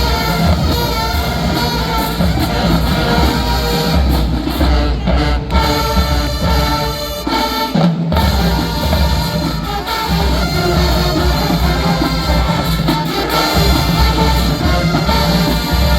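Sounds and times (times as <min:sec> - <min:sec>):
marching band playing: 0:00.0 - 0:15.9.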